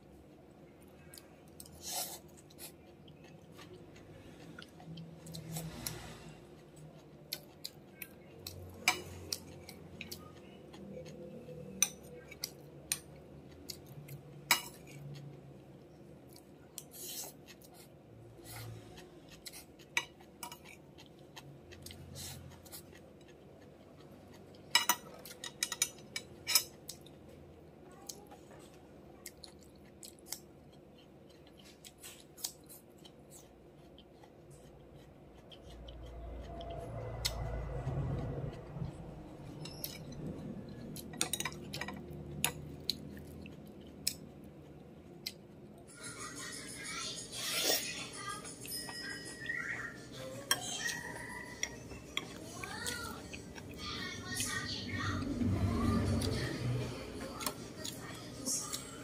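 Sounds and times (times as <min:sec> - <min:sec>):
chewing: 0:00.1 - 0:59.0.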